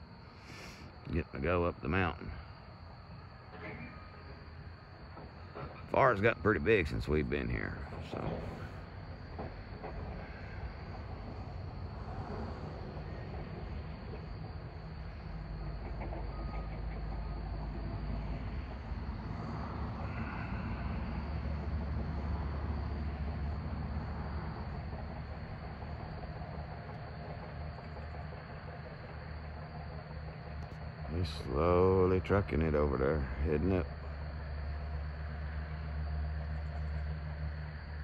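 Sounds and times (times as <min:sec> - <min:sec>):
crickets chirring: 0:00.0 - 0:38.0
road traffic rumble: 0:00.0 - 0:38.0.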